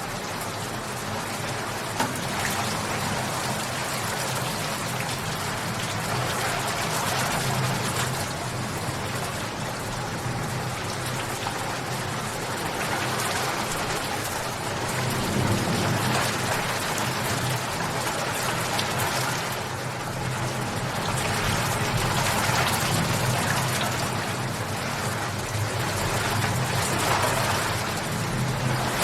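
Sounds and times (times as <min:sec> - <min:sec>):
raindrops pattering on a surface: 0:00.0 - 0:29.0
steady rain falling: 0:00.0 - 0:29.0.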